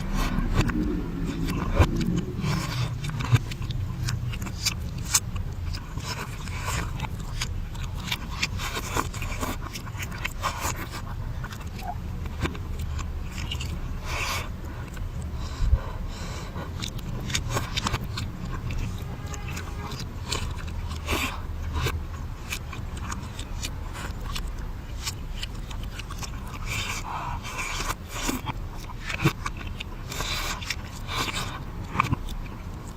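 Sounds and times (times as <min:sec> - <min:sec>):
reversed chewing noises: 0:00.0 - 0:32.9
steady low rumble: 0:00.0 - 0:32.9.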